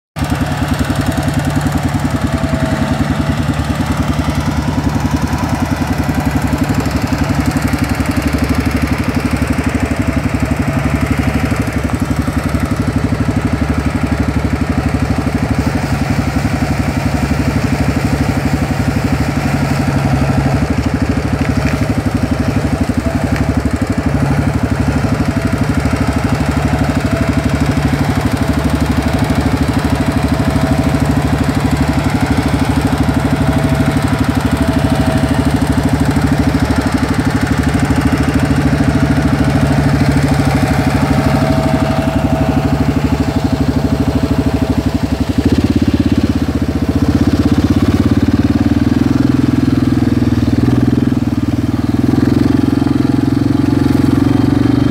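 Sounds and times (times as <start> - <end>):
diesel engine pulsing rumble: 0.2 - 54.9.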